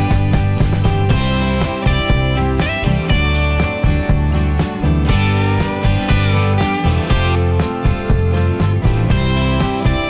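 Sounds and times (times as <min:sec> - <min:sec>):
instrumental music with guitar: 0:00.0 - 0:10.0.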